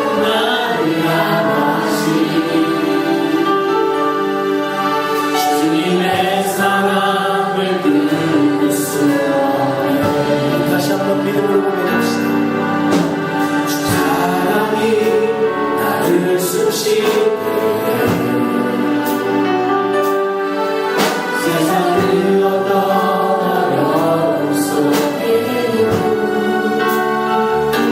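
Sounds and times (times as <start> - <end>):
choir singing sustained notes: 0.0 - 27.9.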